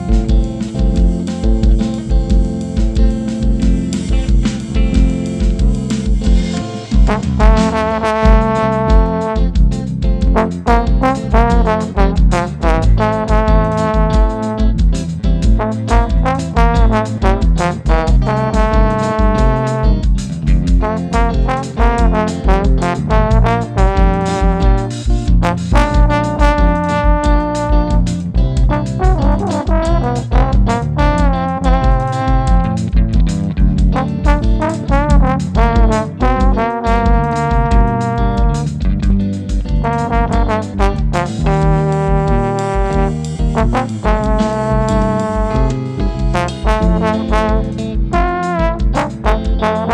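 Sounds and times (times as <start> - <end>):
bass and drums: 0.0 - 49.9
percussion: 0.0 - 49.9
trombone melody: 6.5 - 33.0, 33.9 - 38.9, 39.8 - 49.9.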